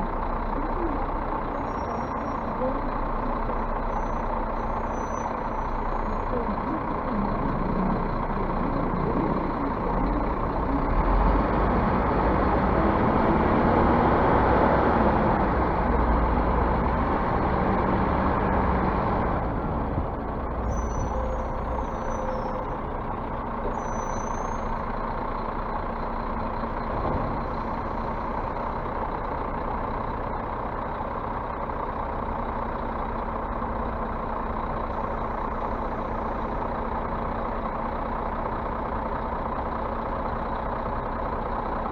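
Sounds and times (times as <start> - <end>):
bus engine running: 0.0 - 41.9.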